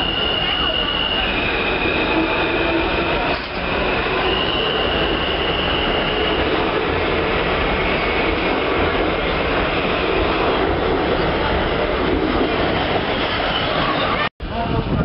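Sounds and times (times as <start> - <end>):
high wheel squeal: 0.0 - 11.4, 12.8 - 14.3
train wheels rumbling on rail: 0.0 - 15.0.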